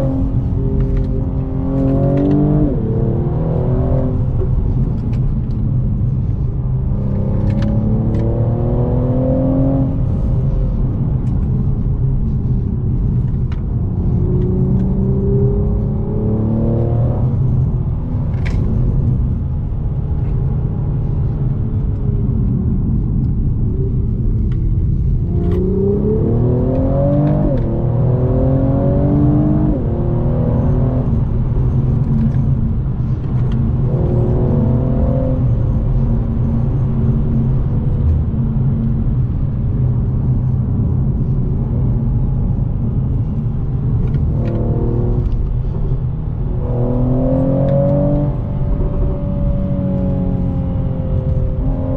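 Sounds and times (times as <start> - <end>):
car engine accelerating through gears: 0.0 - 51.9
road and tyre rumble: 0.0 - 51.9.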